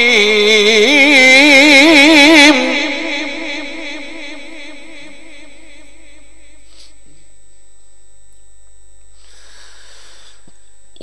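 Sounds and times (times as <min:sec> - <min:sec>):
pa system hiss: 0:00.0 - 0:11.0
reciter's held wavering note: 0:00.0 - 0:11.0.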